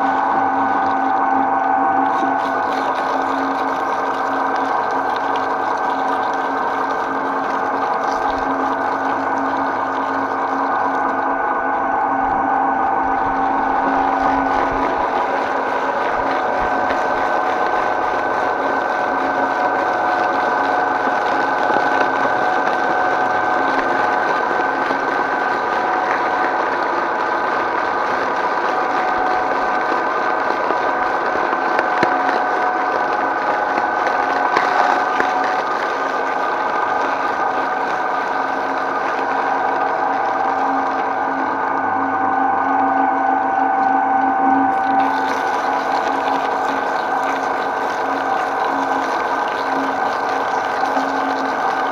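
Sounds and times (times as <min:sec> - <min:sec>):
shredder grinding plastic: 0:00.0 - 0:42.4, 0:43.8 - 0:51.9
shredder motor humming: 0:00.0 - 0:51.9.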